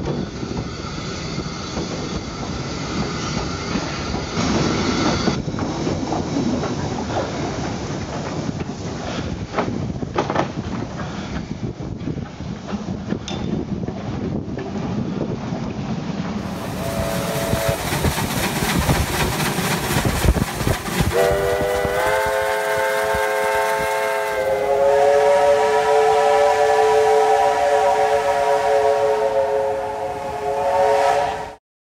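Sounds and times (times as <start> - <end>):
steam locomotive hissing and chuffing: 0.0 - 31.6.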